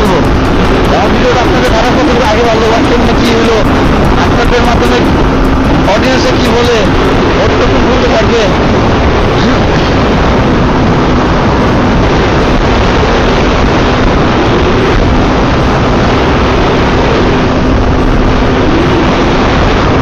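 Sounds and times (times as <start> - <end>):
motorcycle engine hum: 0.0 - 20.0
wind and road noise: 0.0 - 20.0.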